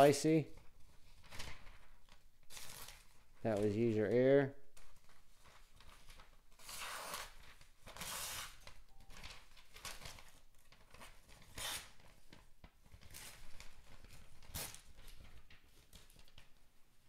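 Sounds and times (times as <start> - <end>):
paper rustling and crinkling: 0.5 - 4.2, 4.8 - 16.8.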